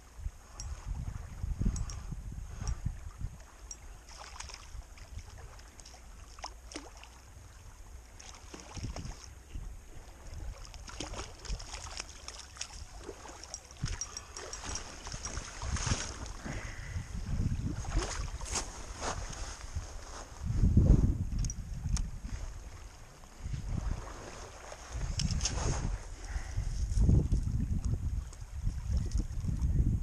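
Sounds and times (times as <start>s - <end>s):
wind on microphone: 0.0s - 6.2s, 7.3s - 30.0s
small waves lapping: 0.5s - 20.4s, 22.0s - 29.6s.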